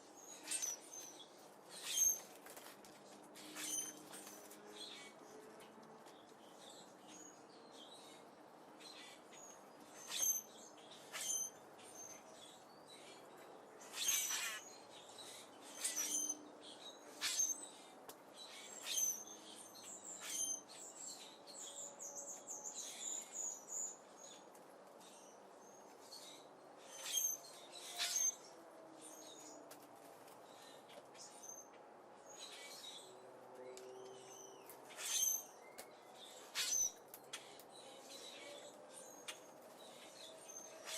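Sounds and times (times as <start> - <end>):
small birds chirping: 0.0 - 29.6, 30.4 - 40.9.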